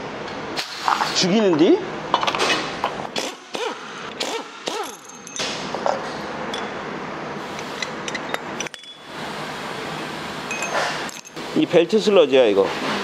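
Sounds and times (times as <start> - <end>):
workshop background noise: 0.0 - 13.0.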